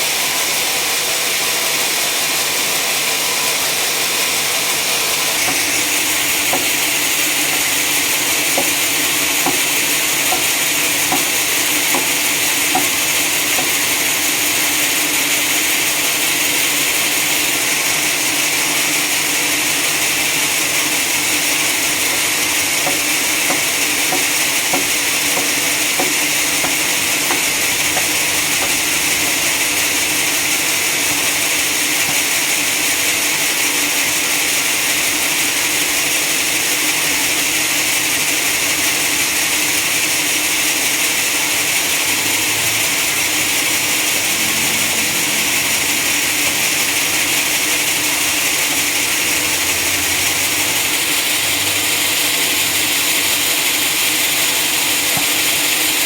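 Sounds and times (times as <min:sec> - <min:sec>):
sawmill saw whining: 0:00.0 - 0:56.0.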